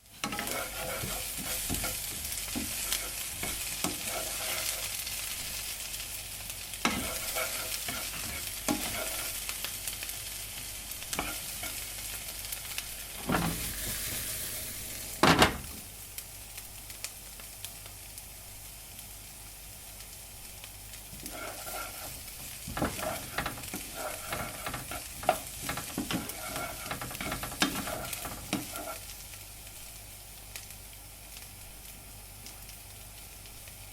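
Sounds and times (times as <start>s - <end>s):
food sizzling in a pan: 0.0s - 33.9s.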